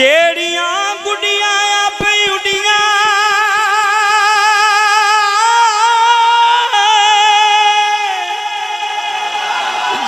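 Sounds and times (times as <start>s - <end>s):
man singing with vibrato: 0.0s - 10.0s.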